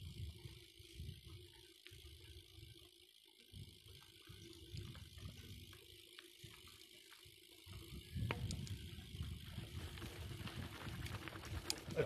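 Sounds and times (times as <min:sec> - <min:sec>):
bike chain and frame rattling: 0:00.0 - 0:12.0
bike tyres rolling on dirt: 0:00.0 - 0:12.0.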